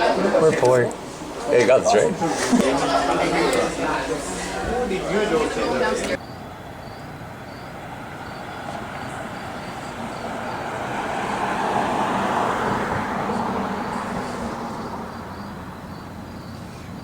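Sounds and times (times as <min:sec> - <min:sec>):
road vehicle passing by: 0:00.0 - 0:17.0.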